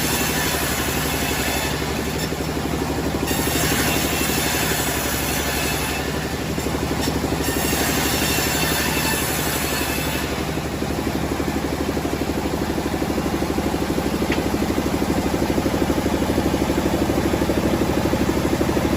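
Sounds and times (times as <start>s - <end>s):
engine idling with chugging pulse: 0.0s - 18.9s.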